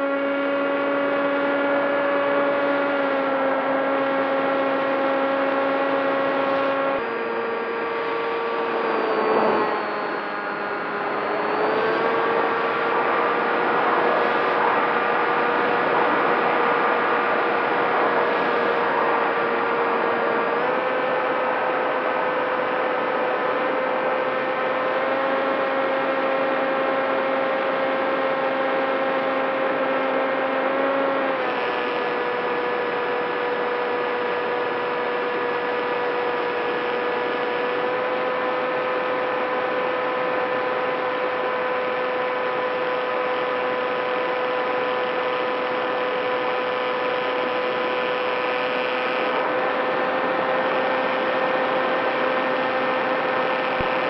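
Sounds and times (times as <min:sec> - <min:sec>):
model airplane motor whine: 0:00.0 - 0:54.0.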